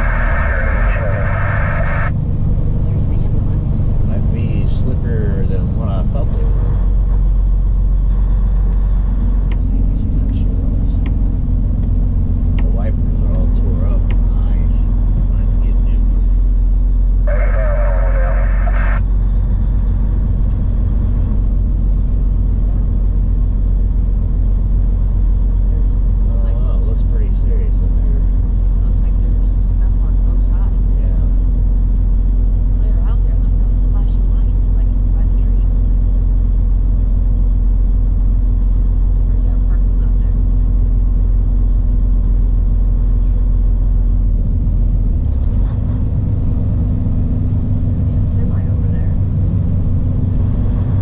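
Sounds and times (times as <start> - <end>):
truck engine and road noise: 0.0 - 51.0.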